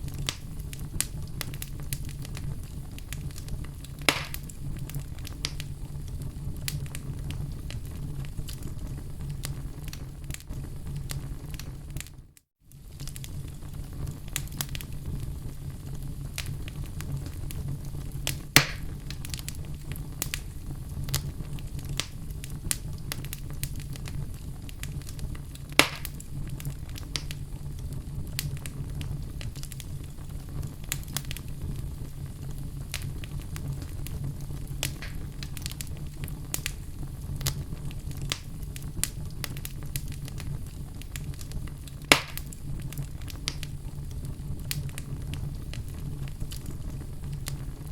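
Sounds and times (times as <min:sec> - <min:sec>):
fire crackling: 0:00.0 - 0:47.9
fire flames rumbling: 0:00.0 - 0:47.9
loud fire pops: 0:00.0 - 0:47.9.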